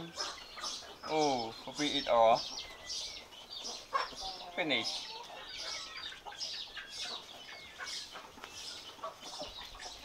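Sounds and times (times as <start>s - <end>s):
birds chirping: 0.0s - 10.0s
chickens clucking: 0.0s - 10.0s.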